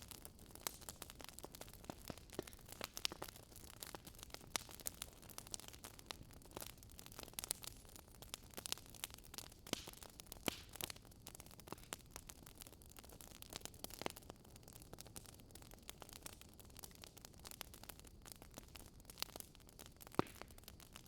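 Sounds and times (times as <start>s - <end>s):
fire crackling: 0.0s - 21.0s
soft steady hiss: 0.0s - 21.0s.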